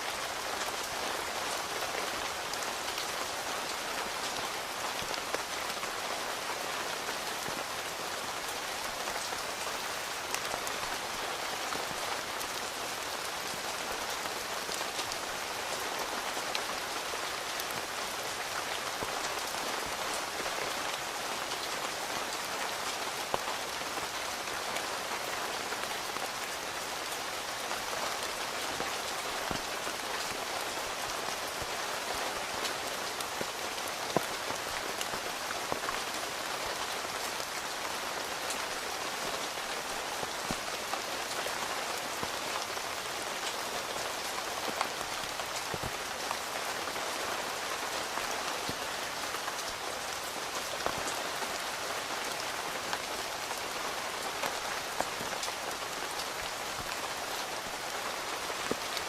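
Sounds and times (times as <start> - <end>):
rain pattering on tent fabric: 0.0 - 59.0.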